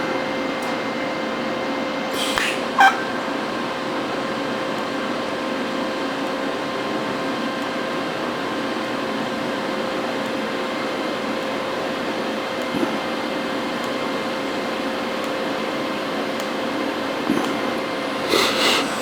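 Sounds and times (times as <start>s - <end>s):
welding arc hissing and humming: 0.0s - 19.0s.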